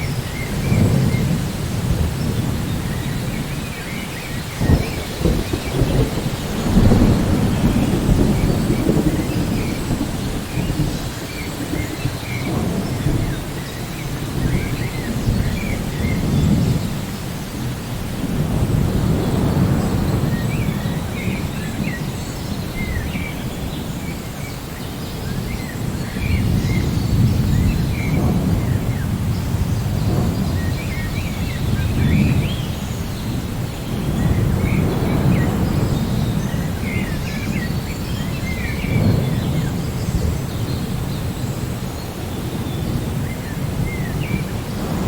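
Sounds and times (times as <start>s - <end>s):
rain: 0.0s - 45.0s
thunder rumbling: 0.0s - 45.0s.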